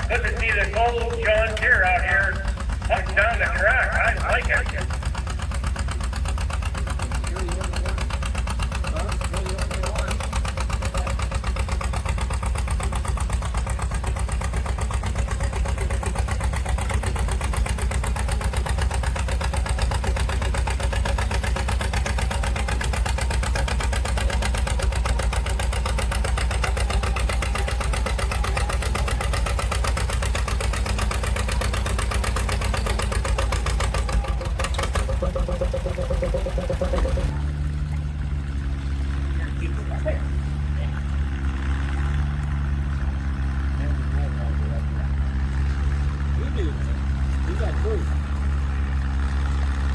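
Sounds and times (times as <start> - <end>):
tractor engine under heavy load: 0.0 - 49.9.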